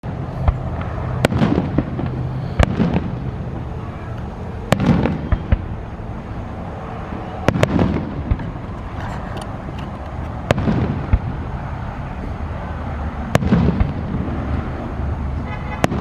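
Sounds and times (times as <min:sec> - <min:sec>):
fireworks bangs: 0:00.0 - 0:12.1, 0:13.2 - 0:14.5, 0:15.4 - 0:16.0
fireworks crackling tail: 0:00.0 - 0:12.6, 0:13.2 - 0:16.0.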